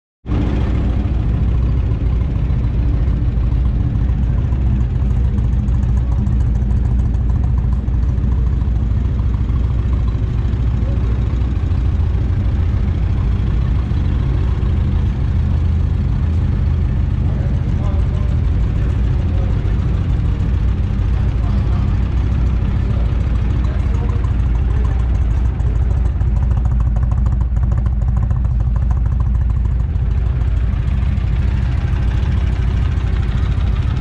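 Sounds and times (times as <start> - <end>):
motorcycle engine idling: 0.3 - 34.0.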